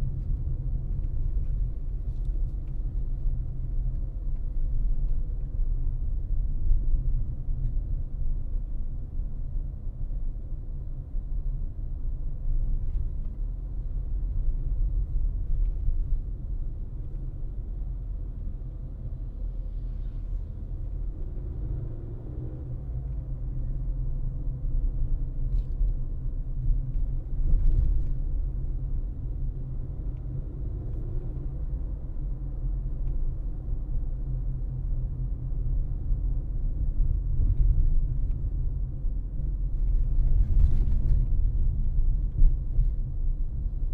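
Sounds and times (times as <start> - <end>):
road and tyre rumble: 0.0 - 43.9.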